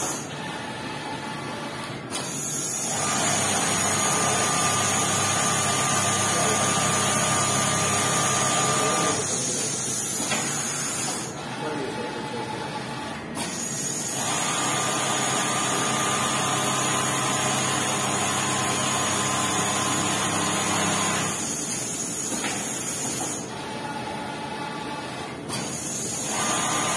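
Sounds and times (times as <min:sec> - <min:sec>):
sewing machine whirring: 0:00.0 - 0:24.0, 0:24.6 - 0:26.9.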